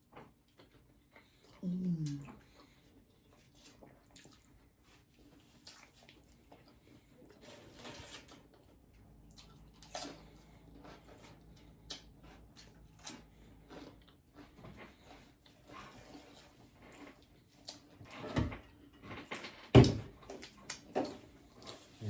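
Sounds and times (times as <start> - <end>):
quiet chewing: 0.0 - 18.1.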